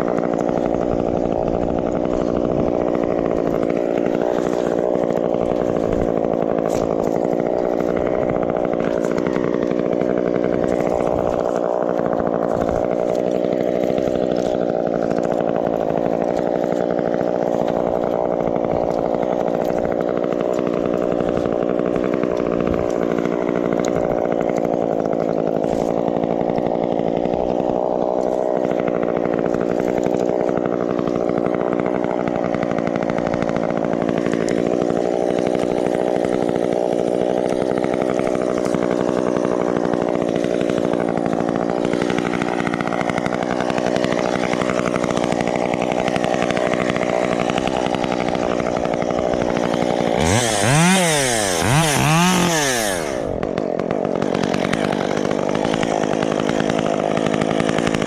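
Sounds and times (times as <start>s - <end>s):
chainsaw cutting tree: 0.0s - 58.0s.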